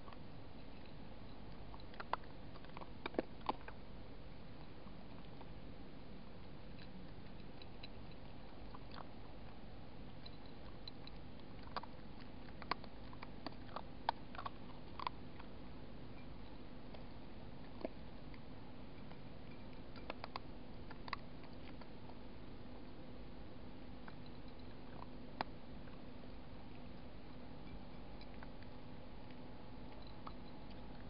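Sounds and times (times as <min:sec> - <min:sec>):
faint steady hum: 0:00.0 - 0:31.0
fox crunching food: 0:00.0 - 0:31.0.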